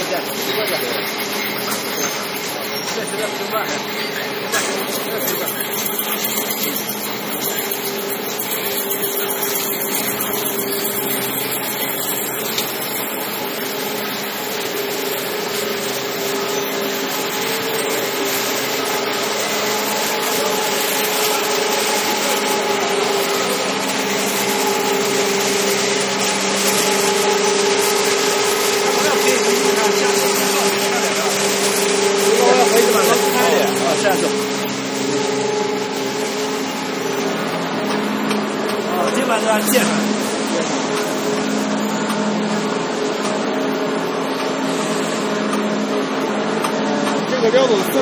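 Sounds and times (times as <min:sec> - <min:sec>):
belt conveyors humming: 0:00.0 - 0:48.0
machinery droning: 0:00.0 - 0:48.0.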